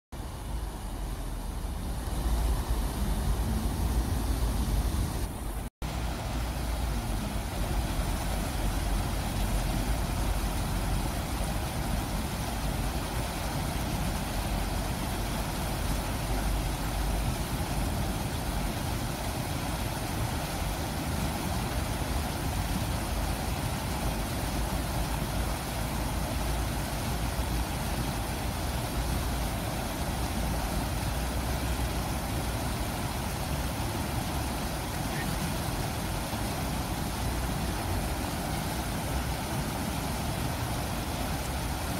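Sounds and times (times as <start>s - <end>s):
low rumble of city traffic: 0.1s - 41.9s
stream water rushing over rocks: 0.1s - 41.9s.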